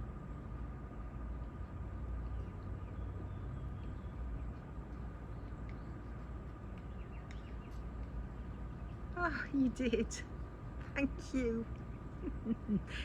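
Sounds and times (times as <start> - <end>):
steady low rumble: 0.0 - 13.0
thin steady whine: 0.0 - 13.0.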